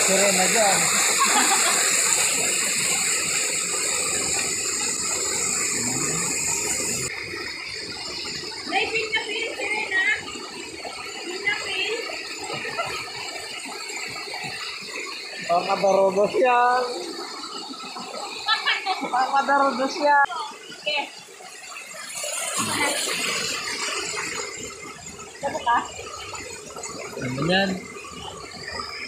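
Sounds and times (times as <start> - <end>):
stream rushing over rock: 0.0 - 29.0.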